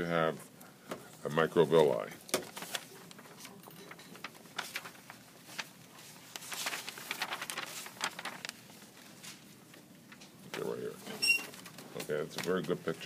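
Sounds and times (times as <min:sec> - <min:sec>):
paper pages flipping: 0:02.2 - 0:13.0.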